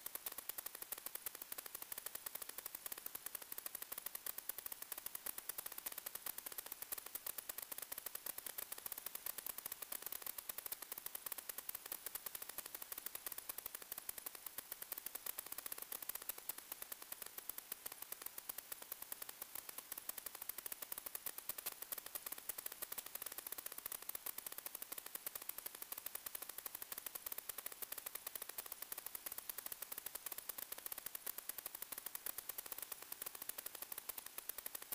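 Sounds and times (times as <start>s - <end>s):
crackling static hiss: 0.0s - 34.9s.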